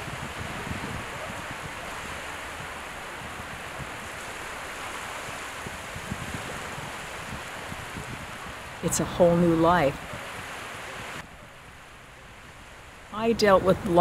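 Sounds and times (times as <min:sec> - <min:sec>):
small waves washing onto beach: 0:00.0 - 0:14.0
wind rumble on microphone: 0:00.0 - 0:14.0.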